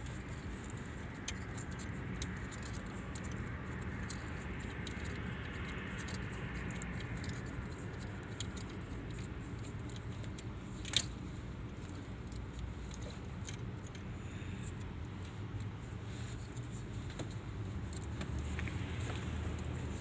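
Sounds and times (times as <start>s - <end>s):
steady low hum: 0.0s - 20.0s
tape and wire clicks and crinkles: 0.0s - 20.0s.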